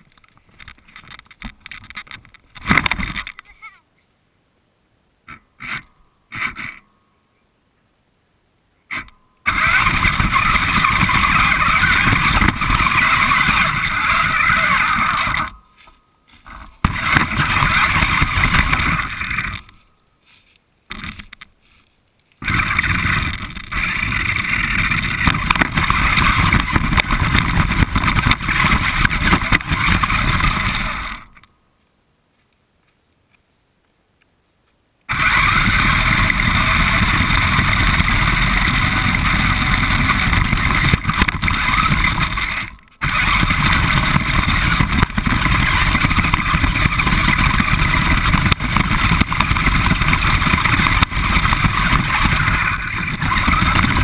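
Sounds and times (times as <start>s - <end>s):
rc car motor and tyre noise: 0.0s - 3.6s, 5.3s - 6.8s, 8.9s - 31.5s, 35.1s - 54.0s.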